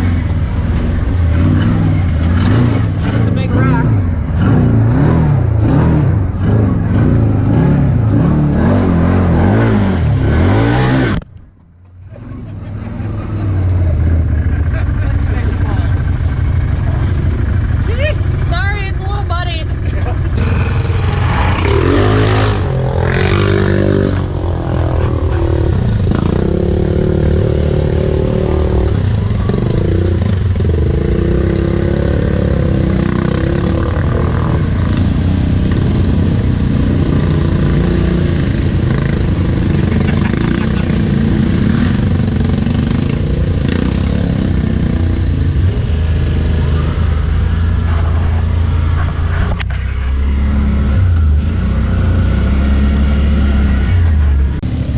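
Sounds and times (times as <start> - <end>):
vehicle engine revving: 0.0 - 11.3, 12.1 - 54.9.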